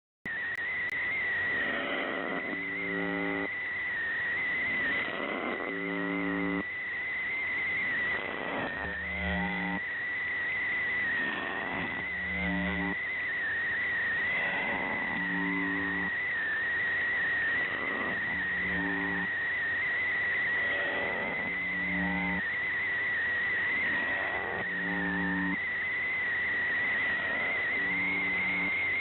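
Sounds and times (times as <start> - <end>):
radio buzz tone: 0.2 - 29.0
radio hiss: 0.3 - 29.0
wavering whistle: 0.3 - 29.0.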